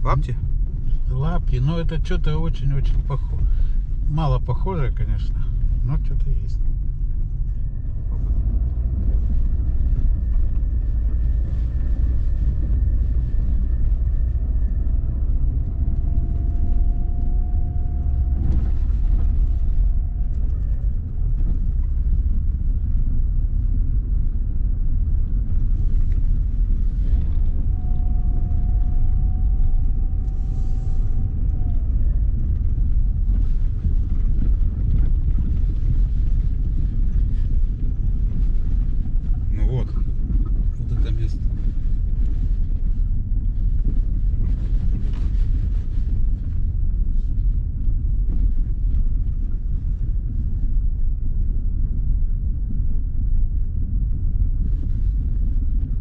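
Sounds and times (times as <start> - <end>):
faint whine: 0.0 - 56.0
tyres rumbling on rough road: 0.0 - 56.0.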